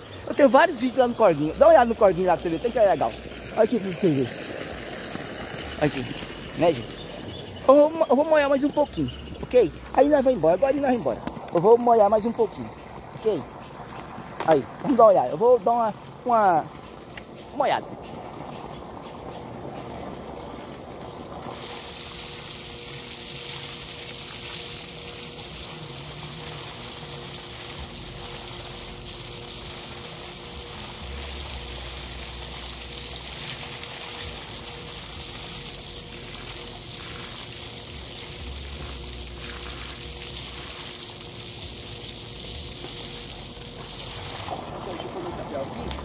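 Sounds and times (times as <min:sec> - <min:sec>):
water pouring from a pipe: 0:00.0 - 0:46.0
water splashing on ground: 0:00.0 - 0:46.0.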